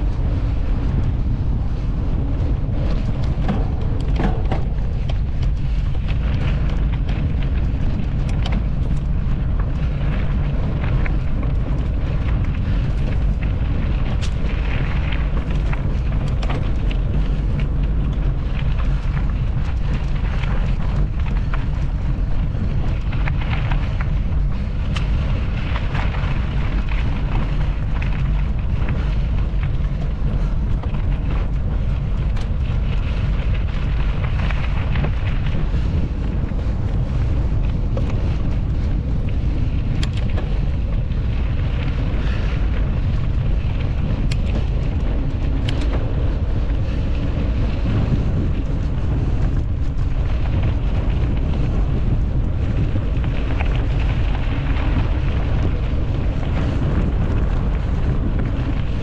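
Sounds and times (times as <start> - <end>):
wind buffeting microphone: 0.0 - 59.0
sharp clicks from bike: 2.4 - 59.0.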